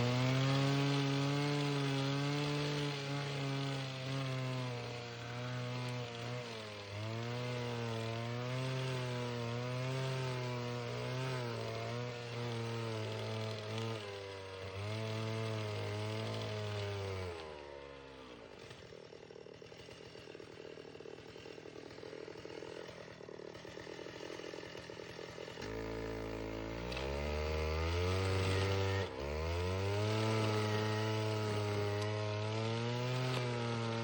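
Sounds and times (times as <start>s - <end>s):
stump grinder engine running: 0.0s - 34.0s.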